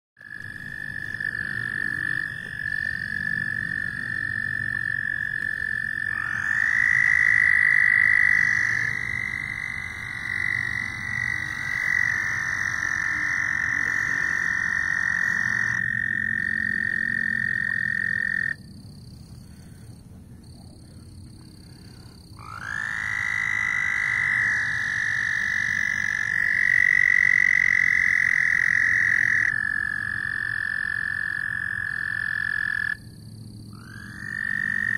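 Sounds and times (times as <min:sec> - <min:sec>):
frogs calling: 0:00.2 - 0:34.9.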